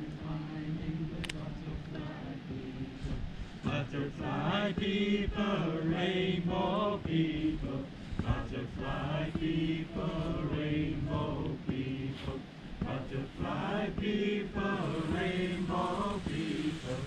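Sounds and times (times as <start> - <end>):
group of people chanting: 0.0 - 17.0.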